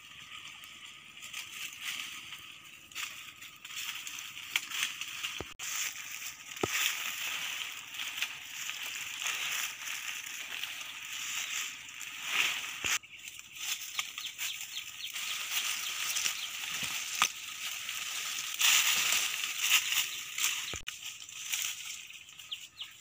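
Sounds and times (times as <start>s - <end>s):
branches brushing and crackling: 0.0s - 23.0s
footsteps crunching dry leaves: 0.0s - 23.0s.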